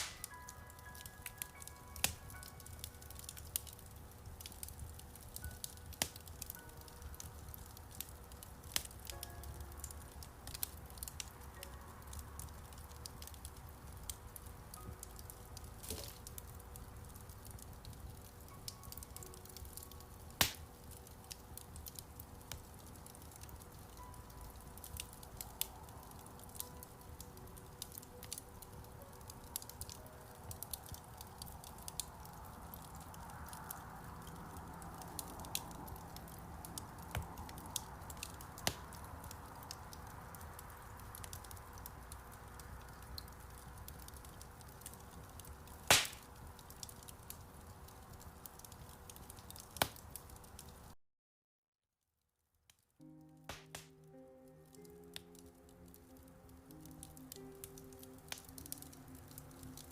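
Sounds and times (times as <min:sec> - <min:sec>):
soft piano notes: 0:00.0 - 0:45.7, 0:53.0 - 0:59.9
wood fire crackling: 0:00.0 - 0:51.0, 0:52.6 - 0:59.9.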